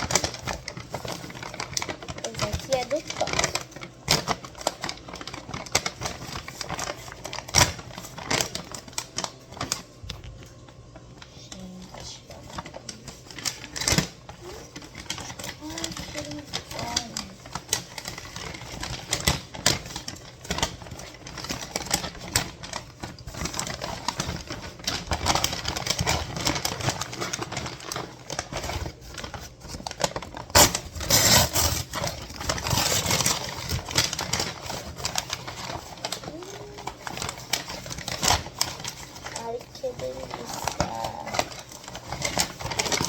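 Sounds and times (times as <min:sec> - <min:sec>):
plastic packaging rustling: 0:00.0 - 0:43.0.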